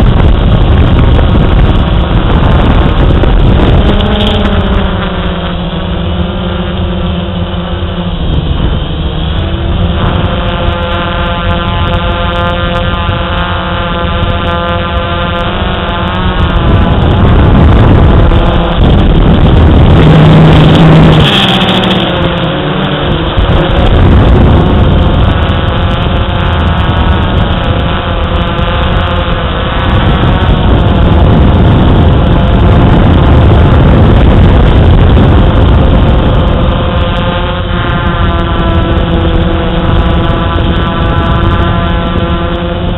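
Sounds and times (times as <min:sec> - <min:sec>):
drone propellers buzzing: 0:00.0 - 0:42.9.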